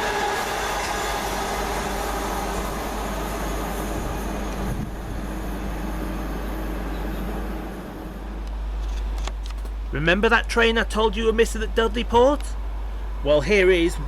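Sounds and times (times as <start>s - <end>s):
train wheels rumbling on rails: 0.0s - 12.6s
faint electric motor hum: 0.0s - 14.0s.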